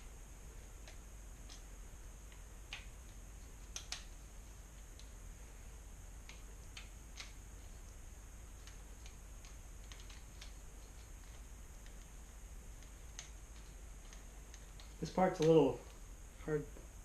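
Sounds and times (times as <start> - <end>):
light clicks of small parts: 0.7 - 5.2, 6.2 - 16.1.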